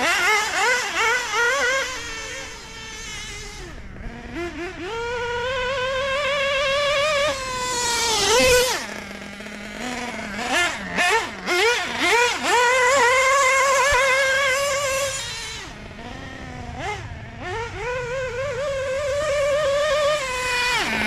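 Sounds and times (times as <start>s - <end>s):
two-stroke model engine revving: 0.0s - 21.0s.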